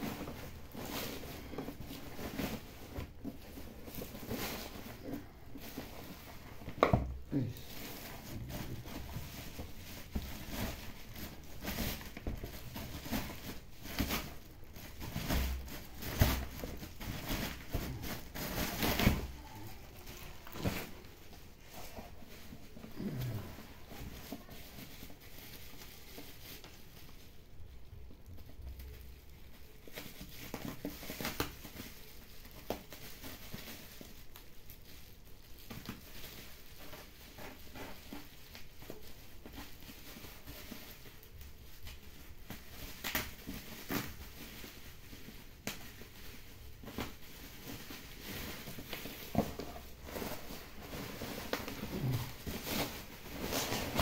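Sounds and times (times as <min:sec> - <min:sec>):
bubble wrap rustling and crinkling: 0:00.0 - 0:54.0.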